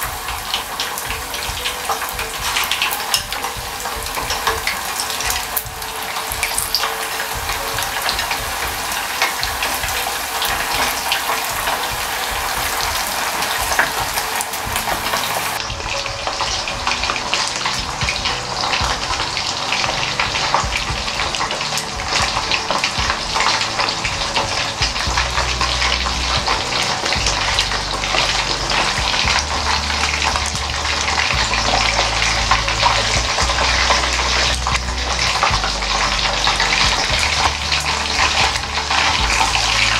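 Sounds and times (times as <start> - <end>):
chicken deep-frying in oil: 0.0 - 39.9.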